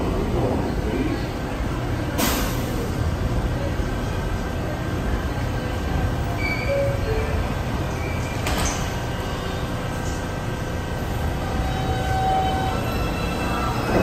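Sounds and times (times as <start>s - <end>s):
train low hum and rumble: 0.0s - 14.0s.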